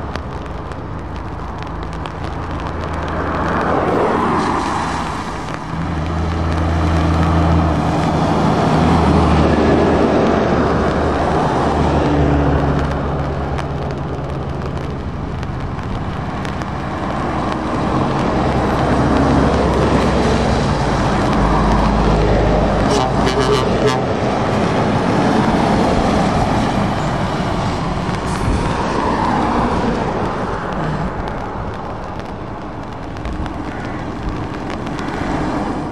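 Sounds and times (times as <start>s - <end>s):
tyres hissing on wet road: 0.0s - 35.9s
heavy trucks driving past: 1.2s - 35.9s.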